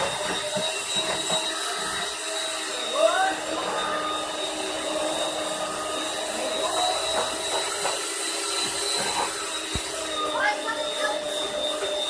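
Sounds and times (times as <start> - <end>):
small electric motor whirring: 0.0 - 12.0.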